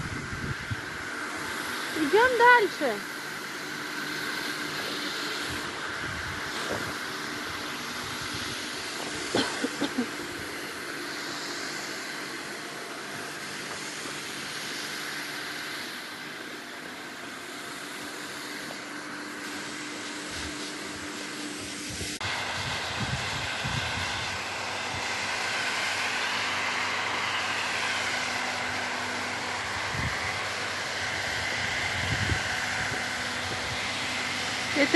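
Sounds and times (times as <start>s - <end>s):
snowmaking fan gun running: 0.0s - 34.9s.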